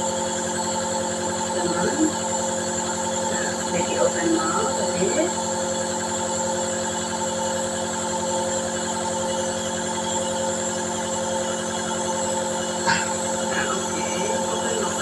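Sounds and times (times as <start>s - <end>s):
nebulizer compressor humming: 0.0s - 15.0s.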